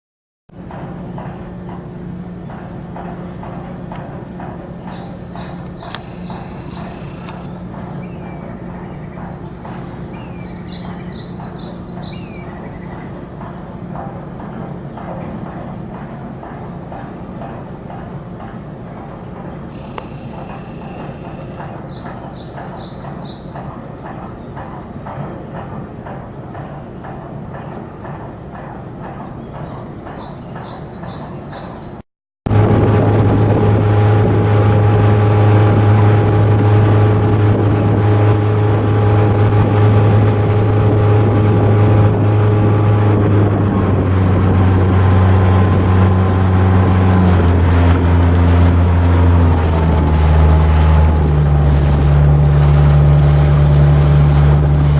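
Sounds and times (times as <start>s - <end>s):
ship diesel engine droning: 0.6s - 24.8s, 32.5s - 54.9s
steady mechanical noise: 0.6s - 30.6s, 32.5s - 54.9s.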